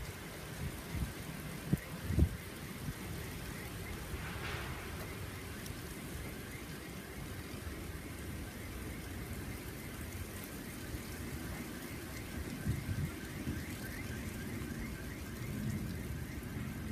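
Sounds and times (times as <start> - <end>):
rain rushing: 0.0 - 16.9.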